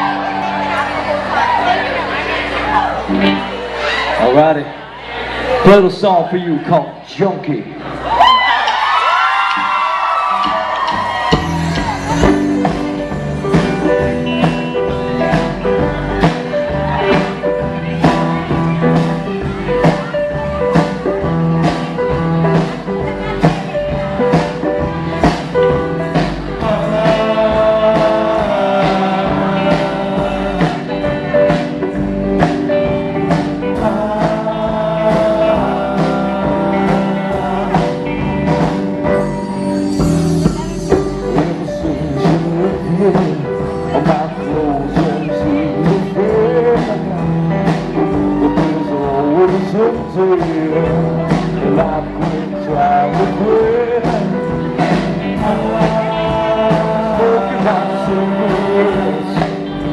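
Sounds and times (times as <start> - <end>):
live rock band playing: 0.0 - 59.9
drum kit beat: 8.7 - 59.9.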